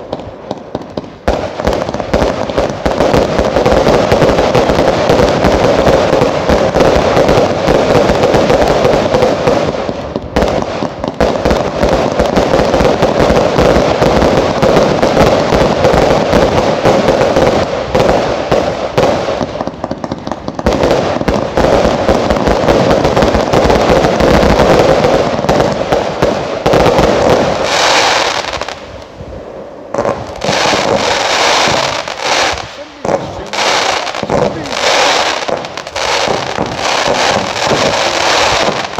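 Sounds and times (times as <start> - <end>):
fireworks launching and bursting: 0.0 - 38.9.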